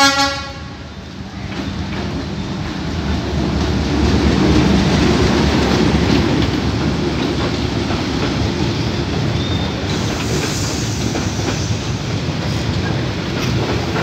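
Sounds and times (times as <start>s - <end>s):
train wheels rumbling past: 0.0s - 14.0s.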